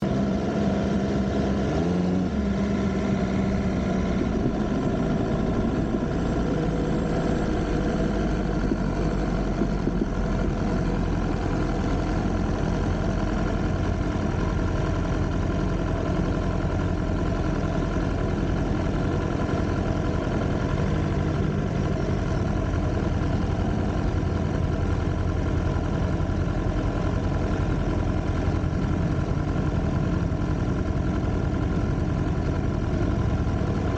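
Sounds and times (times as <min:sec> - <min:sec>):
motorcycle engine idling: 0:02.6 - 0:33.9.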